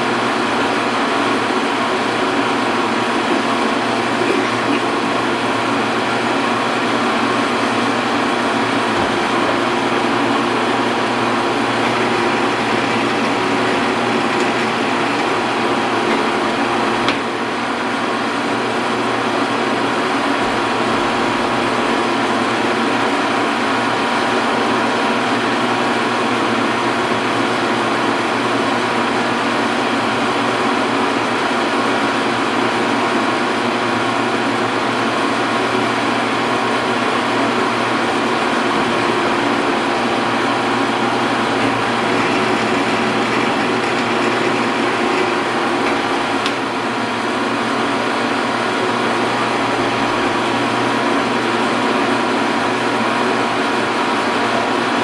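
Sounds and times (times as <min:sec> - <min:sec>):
metal lathe humming and whining: 0:00.0 - 0:55.0.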